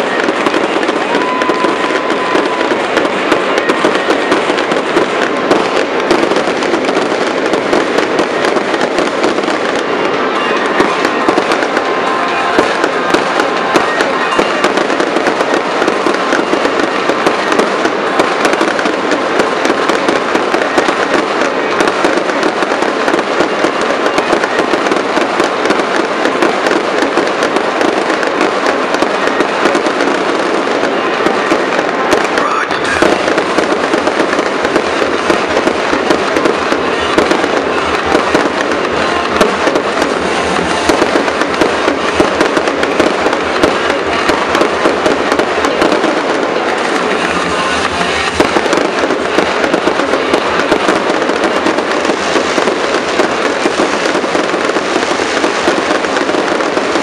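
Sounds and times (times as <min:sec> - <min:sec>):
fireworks crackling and bursting: 0:00.0 - 0:57.0.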